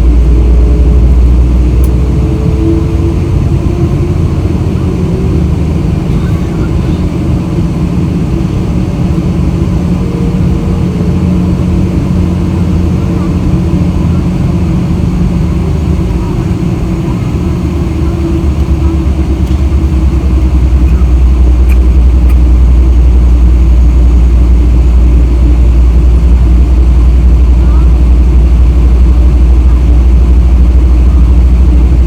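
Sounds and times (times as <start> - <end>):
airliner taxiing rumble: 0.0 - 32.0.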